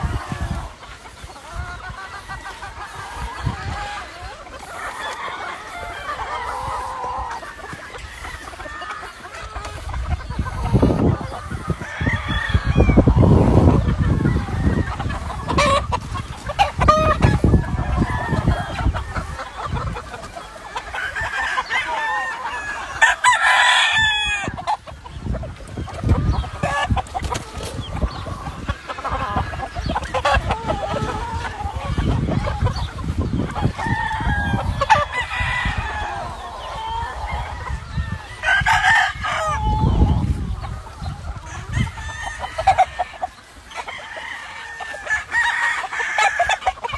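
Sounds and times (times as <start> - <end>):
chickens clucking: 0.0 - 46.9
roosters crowing: 0.0 - 46.9.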